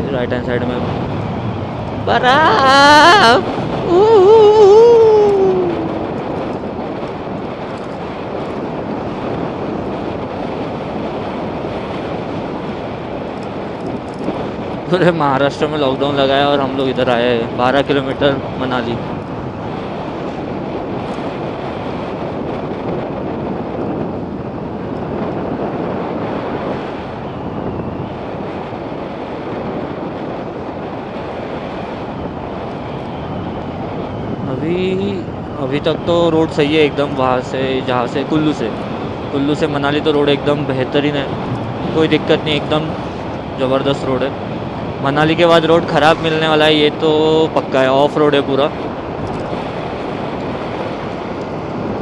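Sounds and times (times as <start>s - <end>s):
motorcycle running: 0.0s - 52.0s
road noise: 0.0s - 52.0s
wind rushing on microphone: 0.0s - 52.0s.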